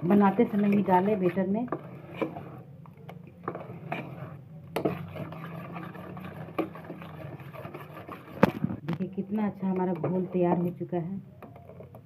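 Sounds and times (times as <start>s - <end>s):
spoon stirring batter: 0.0s - 12.0s.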